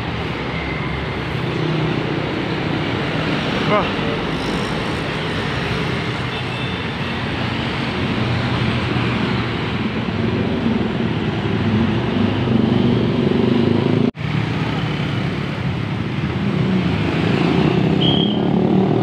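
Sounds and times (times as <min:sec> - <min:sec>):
heavy diesel engines passing: 0:00.0 - 0:19.0.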